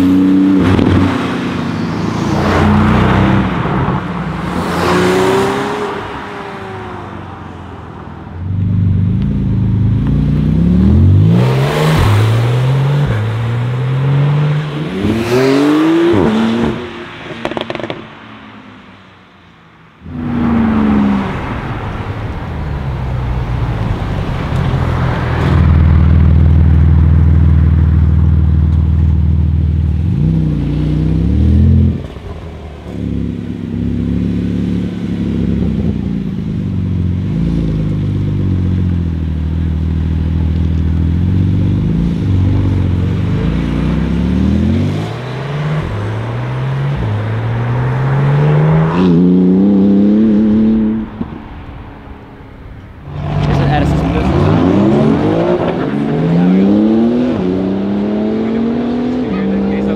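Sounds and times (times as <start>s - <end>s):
car engine revving: 0.0s - 19.2s, 20.0s - 59.9s.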